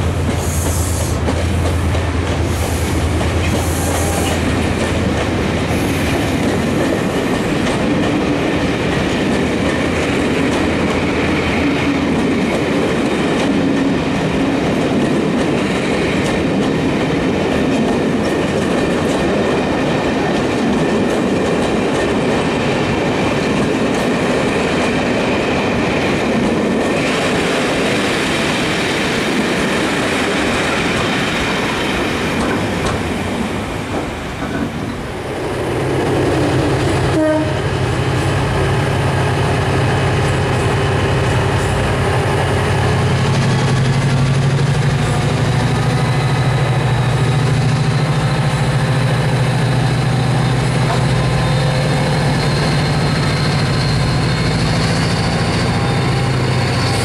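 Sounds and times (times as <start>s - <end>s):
diesel locomotive engine drone: 0.0s - 57.0s
train coaches rumbling over rails: 0.0s - 57.0s.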